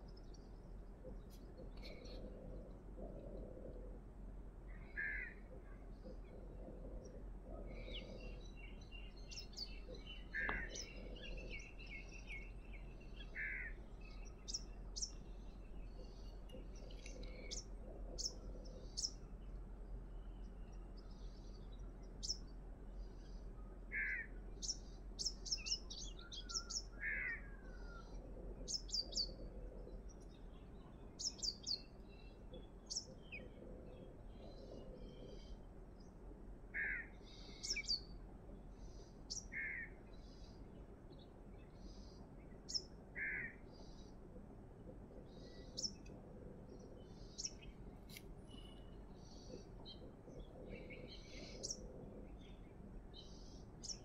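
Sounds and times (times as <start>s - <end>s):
birds chirping and calling: 0.0s - 38.2s, 38.8s - 54.0s
low steady hum: 0.0s - 54.0s.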